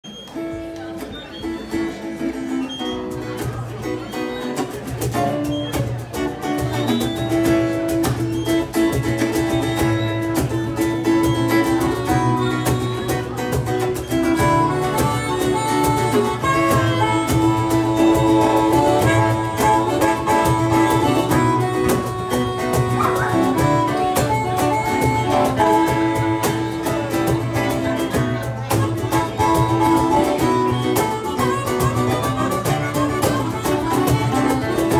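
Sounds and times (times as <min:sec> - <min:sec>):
acoustic guitars strumming: 0:00.1 - 0:34.9
drum kit: 0:04.6 - 0:34.9.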